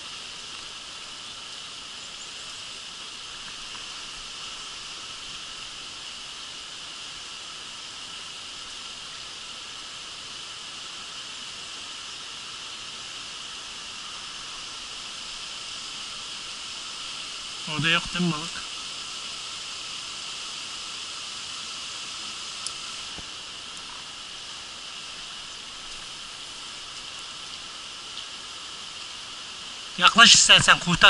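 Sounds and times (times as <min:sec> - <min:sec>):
insect chorus buzzing: 0:00.0 - 0:31.0
shallow stream hissing: 0:00.0 - 0:31.0.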